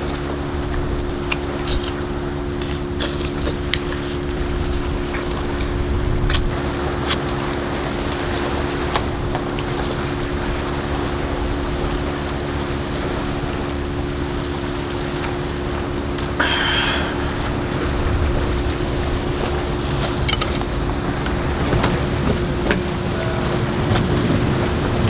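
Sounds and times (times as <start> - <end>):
boat engine humming: 0.0 - 25.0
water around hull: 0.0 - 25.0
wind: 0.0 - 25.0.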